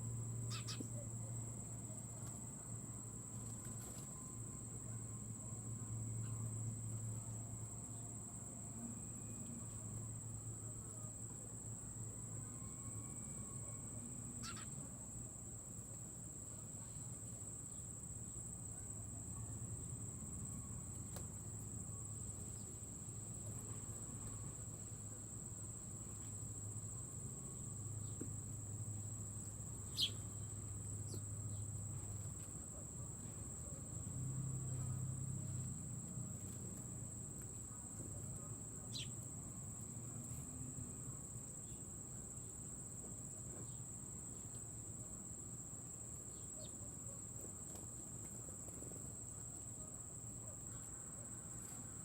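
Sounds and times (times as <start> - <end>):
crickets trilling: 0.0 - 52.0.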